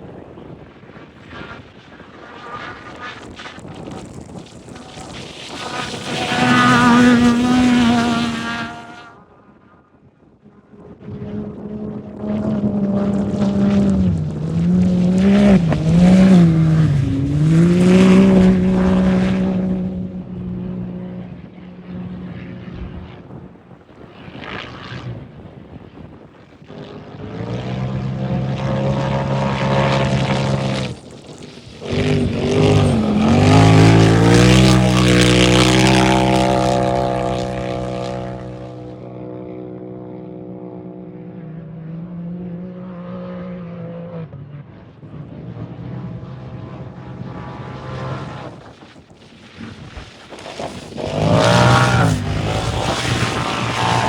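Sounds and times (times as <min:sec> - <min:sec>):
race engines passing at speed: 0:02.6 - 0:09.3, 0:10.6 - 0:23.3, 0:26.6 - 0:54.0.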